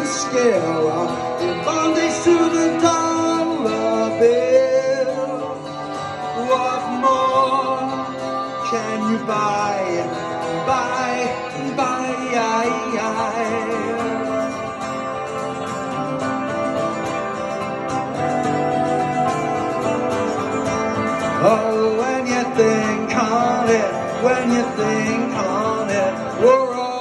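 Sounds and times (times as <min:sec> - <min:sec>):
acoustic guitar strumming: 0:00.0 - 0:27.0
electric guitar lead melody: 0:00.0 - 0:27.0.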